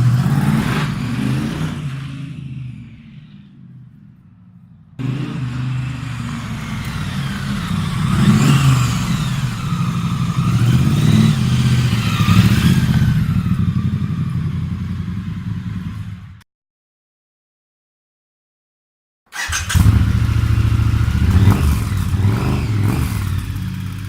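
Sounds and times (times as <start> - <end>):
motorcycle engine revving: 0.0 - 4.1, 4.8 - 16.4, 19.3 - 24.0.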